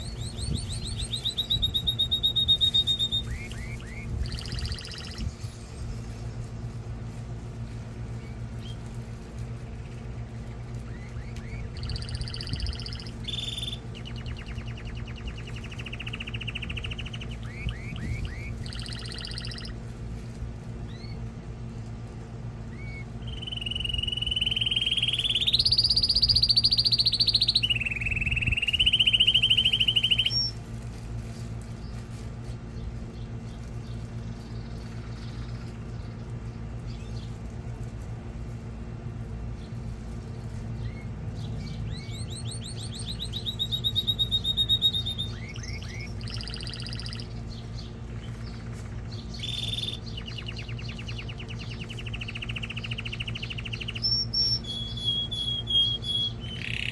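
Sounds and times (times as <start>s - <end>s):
canary singing trills: 0.0s - 21.7s, 22.3s - 30.8s, 31.7s - 56.9s.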